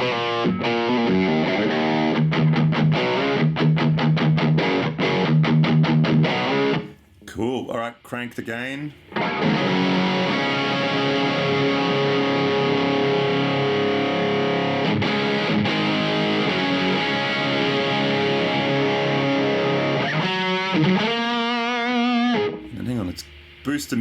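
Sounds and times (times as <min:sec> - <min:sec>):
distorted electric guitar: 0:00.0 - 0:07.0, 0:09.0 - 0:24.0.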